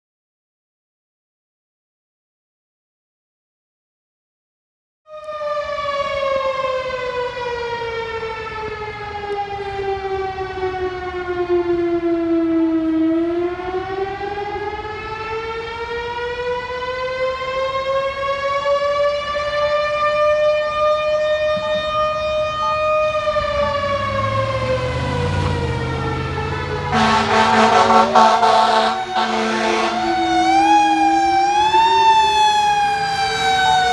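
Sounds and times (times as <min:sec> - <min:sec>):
fire siren wailing: 0:05.1 - 0:33.9
fire truck horn: 0:05.1 - 0:33.9
fire truck siren: 0:05.1 - 0:33.9.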